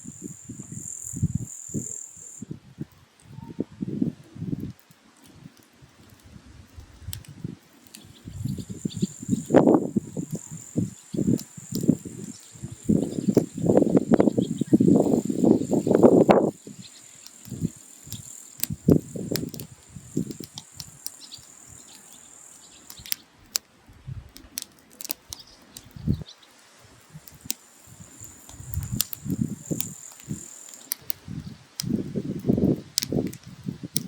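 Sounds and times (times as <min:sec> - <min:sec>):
firewood crackling and popping: 0:00.0 - 0:34.0.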